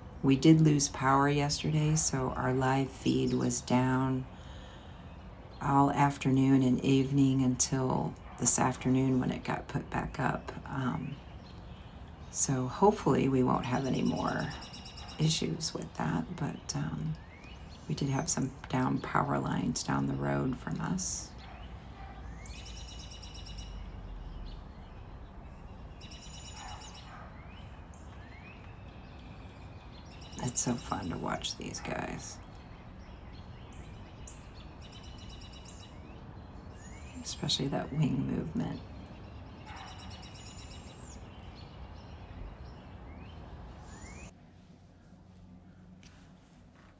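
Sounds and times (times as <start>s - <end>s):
birds calling: 0.0s - 46.4s
songbird singing: 0.0s - 46.5s
low outdoor hum: 0.0s - 46.9s.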